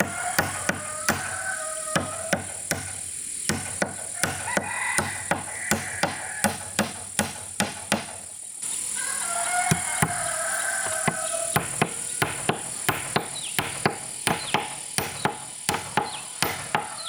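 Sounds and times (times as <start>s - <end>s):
hand tool striking wood: 0.0s - 8.3s, 9.7s - 17.0s.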